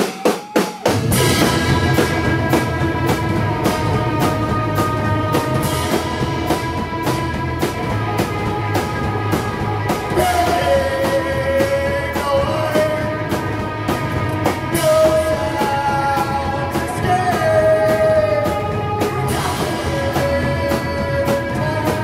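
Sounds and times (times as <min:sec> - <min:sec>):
drum kit beat: 0:00.0 - 0:22.0
live rock band playing: 0:00.0 - 0:22.0.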